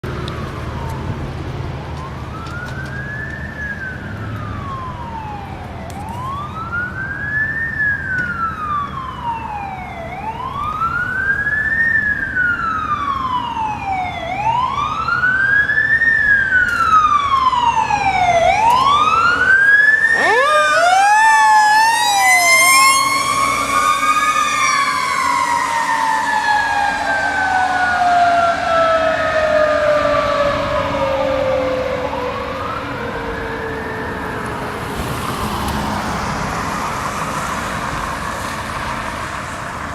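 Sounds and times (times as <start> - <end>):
diesel engine rumbling: 0.0 - 39.9
electronic siren wailing: 0.5 - 35.3.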